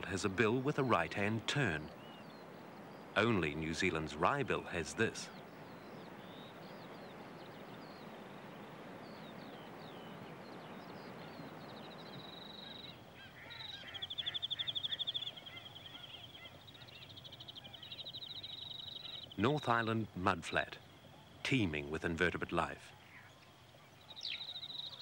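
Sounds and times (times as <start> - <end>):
birds chirping and trilling: 0.0 - 25.0.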